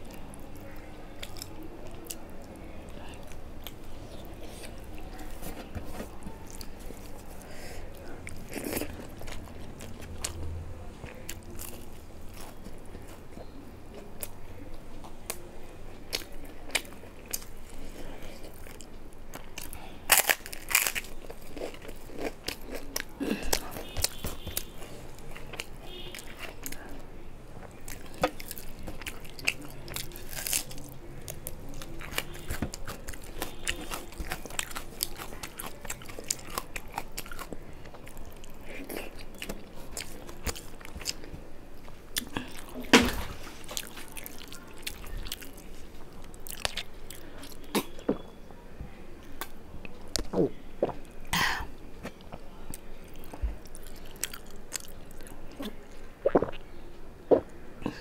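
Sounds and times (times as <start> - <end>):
person chewing food: 0.0 - 14.4, 16.1 - 27.0, 27.6 - 48.2, 49.4 - 56.7.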